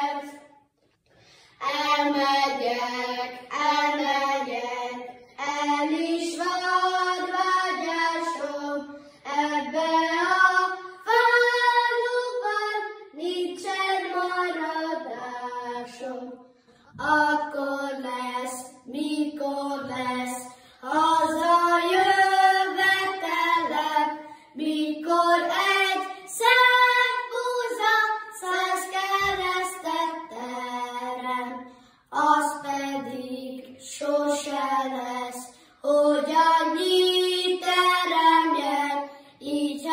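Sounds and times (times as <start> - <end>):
children singing unaccompanied: 0.0 - 0.4, 1.6 - 39.9.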